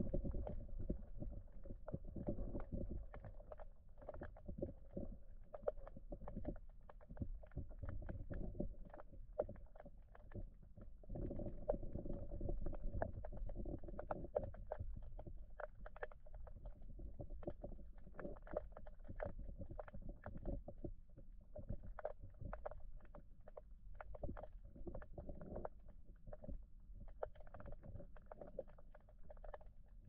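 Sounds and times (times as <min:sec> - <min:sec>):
muffled underwater river rumble: 0:00.0 - 0:30.0
small irregular underwater clicks: 0:00.0 - 0:30.0.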